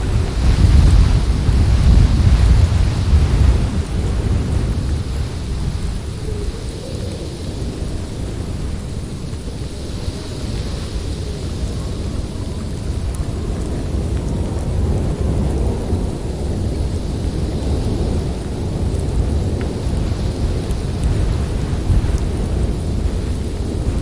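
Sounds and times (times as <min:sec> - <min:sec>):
snowstorm wind blowing: 0:00.0 - 0:24.0.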